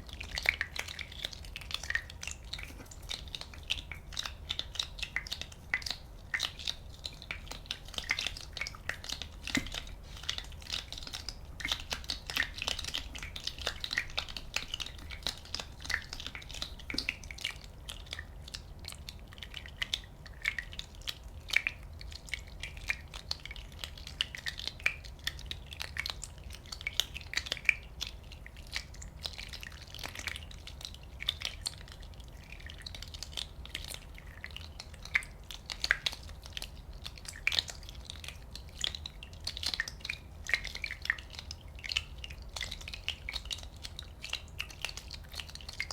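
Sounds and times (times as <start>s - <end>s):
faint low hum: 0.0s - 45.9s
small bubbles popping: 0.0s - 45.9s.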